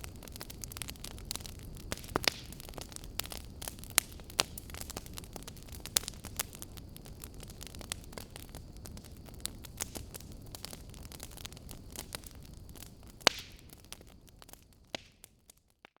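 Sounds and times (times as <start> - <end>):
fire crackling: 0.0 - 15.9.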